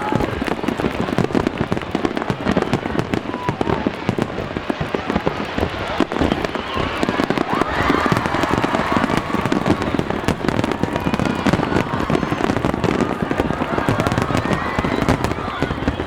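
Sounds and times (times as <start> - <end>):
fireworks bangs and crackle: 0.0 - 16.0.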